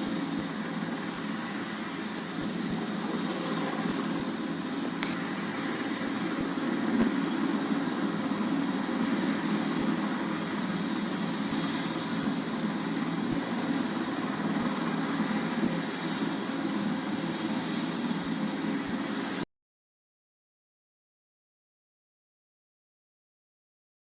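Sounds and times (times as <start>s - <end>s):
helicopter engine and rotor: 0.0s - 19.4s.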